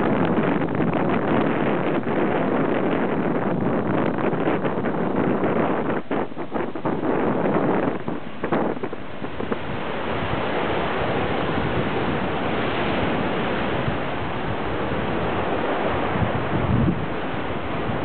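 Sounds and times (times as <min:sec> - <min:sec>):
sea waves roaring: 0:00.0 - 0:18.0
wind buffeting microphone: 0:00.0 - 0:18.0.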